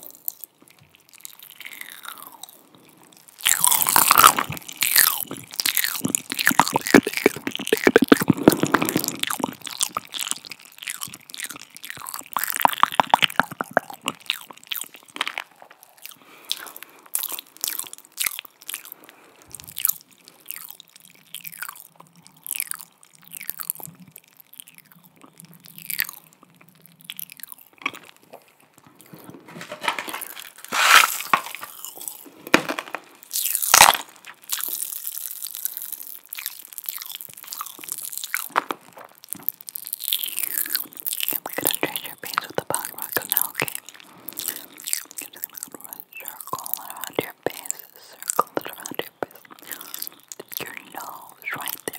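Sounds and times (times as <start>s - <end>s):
wet tongue and lip clicks: 0.0s - 51.9s.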